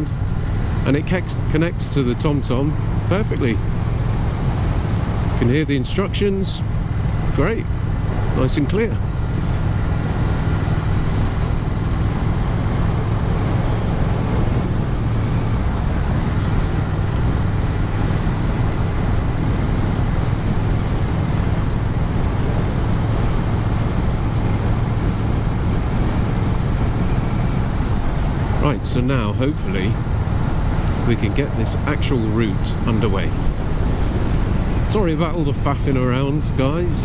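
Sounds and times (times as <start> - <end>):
motorcycle engine running: 0.0 - 37.0
wind and road noise: 0.0 - 37.0.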